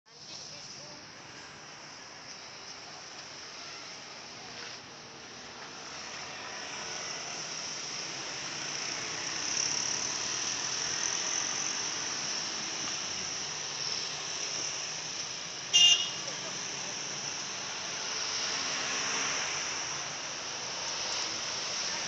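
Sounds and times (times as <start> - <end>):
roadside traffic hiss: 0.1 - 22.0.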